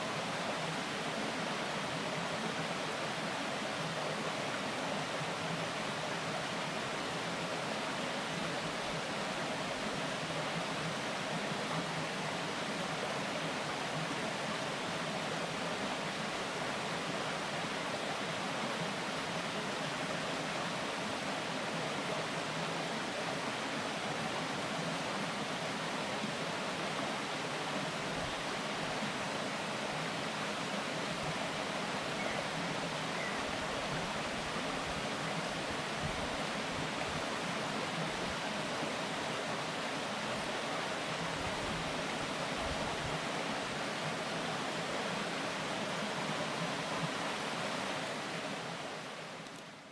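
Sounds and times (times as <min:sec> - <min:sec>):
stream babbling over rocks: 0:00.0 - 0:49.9.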